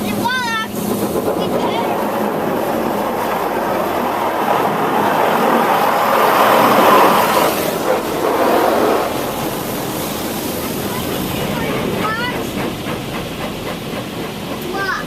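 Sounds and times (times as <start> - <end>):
water jets drumming on car body: 0.0 - 15.0.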